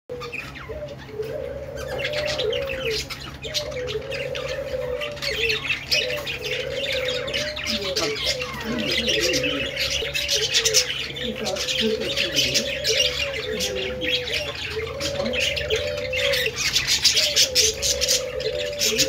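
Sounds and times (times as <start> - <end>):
budgerigars chattering and chirping: 0.1 - 19.0
steady low hum: 0.1 - 19.0.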